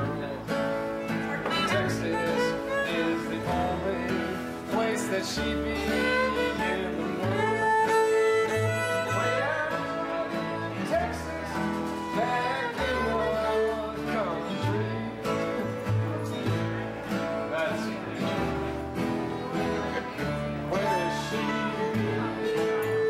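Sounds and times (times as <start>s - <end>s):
acoustic guitars: 0.0s - 23.0s
fiddle playing: 0.0s - 23.0s.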